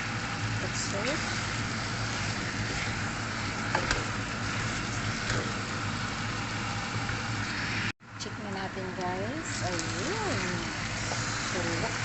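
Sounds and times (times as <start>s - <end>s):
chicken and potatoes sizzling: 0.0s - 12.0s.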